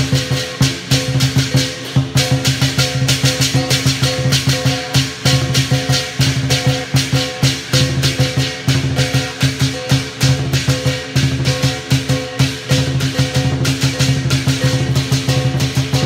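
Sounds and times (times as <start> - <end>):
cymbals crashing: 0.0 - 16.0
drum beating: 0.0 - 16.0.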